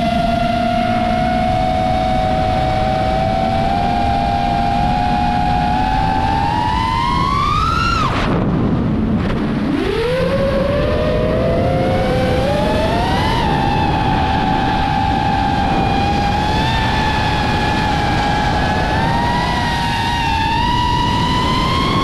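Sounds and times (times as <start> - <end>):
drone motors whining: 0.0 - 22.0
wind rushing over microphone: 0.0 - 22.0.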